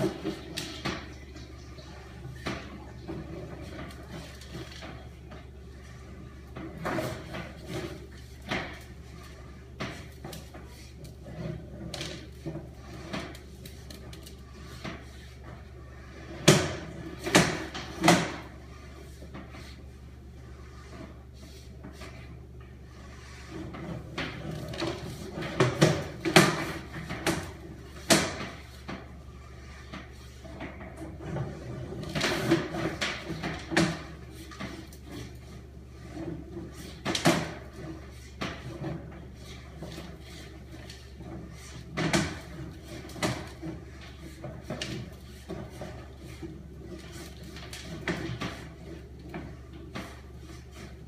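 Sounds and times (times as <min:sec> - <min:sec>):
low electrical hum: 0:00.0 - 0:51.0
short knocks and scrapes: 0:00.0 - 0:51.0.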